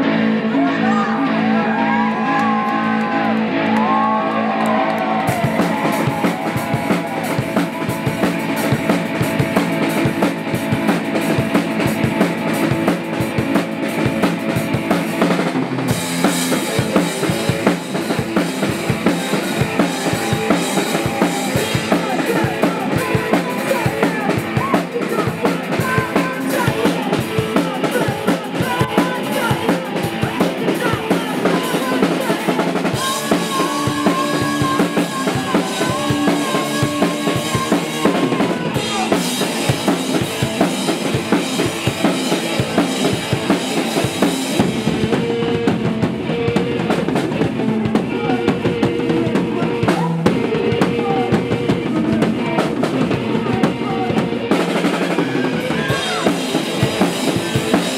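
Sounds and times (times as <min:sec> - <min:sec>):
electric guitar: 0:00.0 - 0:57.9
drum kit pounding: 0:03.8 - 0:57.9.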